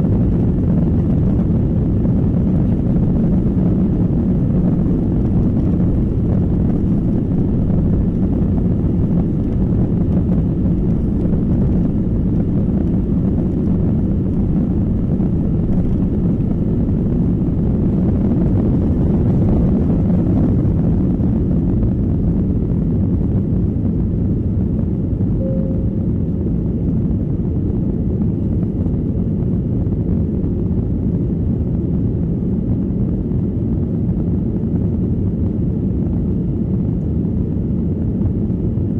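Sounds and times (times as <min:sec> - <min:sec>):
jet engine cabin noise: 0:00.0 - 0:38.9.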